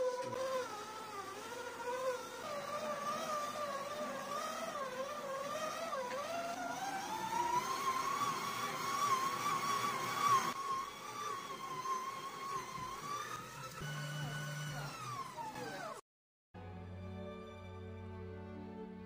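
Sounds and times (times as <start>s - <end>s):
stand mixer motor whining: 0.0s - 16.0s.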